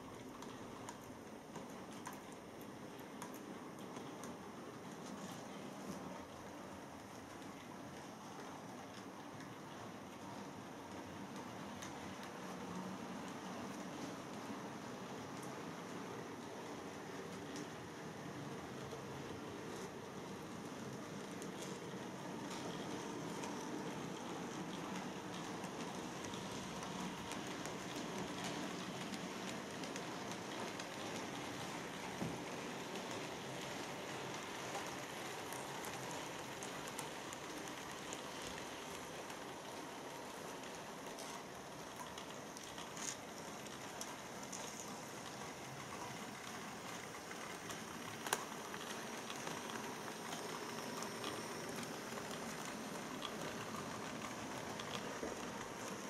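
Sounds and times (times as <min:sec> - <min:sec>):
model train wheels whirring on track: 0:00.0 - 0:56.0.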